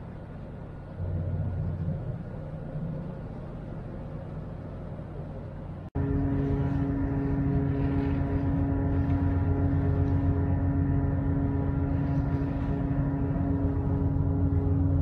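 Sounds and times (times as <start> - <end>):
ferry engines droning: 0.0 - 15.0
multi-pitched hum: 0.0 - 15.0.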